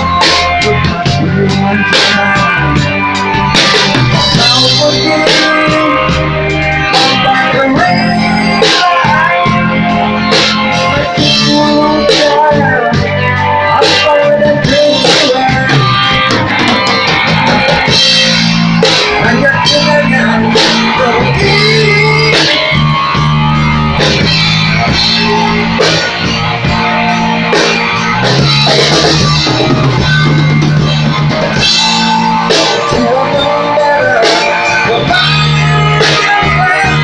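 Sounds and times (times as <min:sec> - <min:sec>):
bass guitar: 0:00.0 - 0:37.0
drums keeping a beat: 0:00.0 - 0:37.0
electric guitar: 0:00.0 - 0:37.0.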